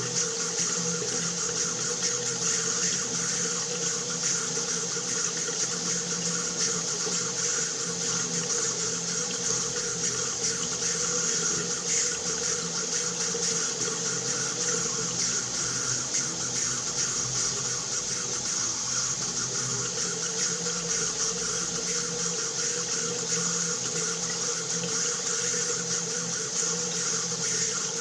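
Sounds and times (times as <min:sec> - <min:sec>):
water running from tap: 0:00.0 - 0:28.0.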